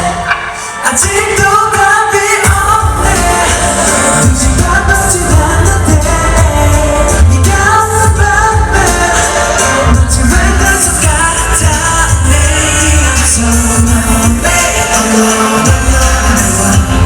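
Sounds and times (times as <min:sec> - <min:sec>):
pop song with sung vocals: 0:00.0 - 0:17.0.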